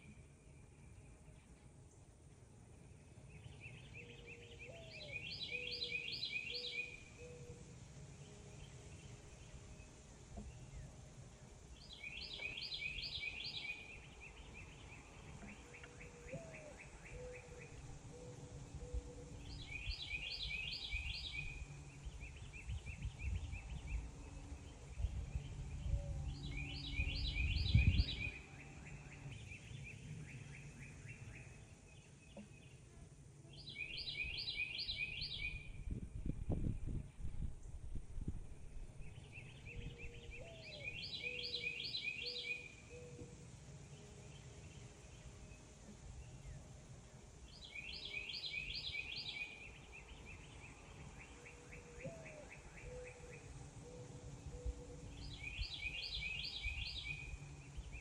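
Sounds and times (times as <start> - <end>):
songbird singing rapid notes: 3.0 - 32.9, 33.5 - 58.0.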